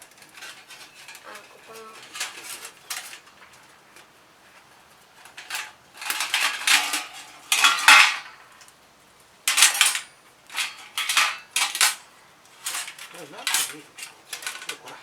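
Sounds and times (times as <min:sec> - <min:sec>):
thin metal parts clattering: 0:00.0 - 0:04.1, 0:05.1 - 0:08.7, 0:09.5 - 0:15.0.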